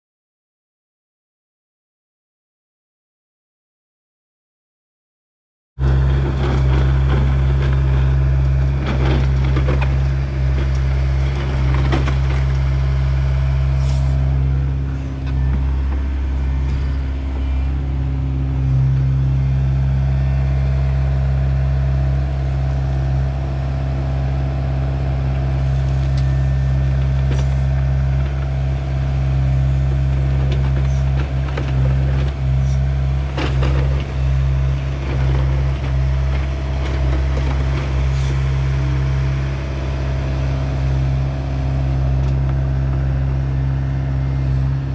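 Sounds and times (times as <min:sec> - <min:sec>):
excavator diesel engine running: 0:05.8 - 0:44.9.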